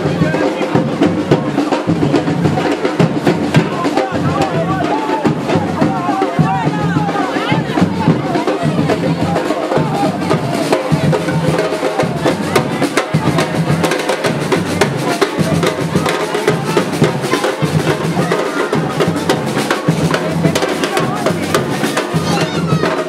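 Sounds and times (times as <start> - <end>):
drums beating rapidly: 0.0 - 23.0.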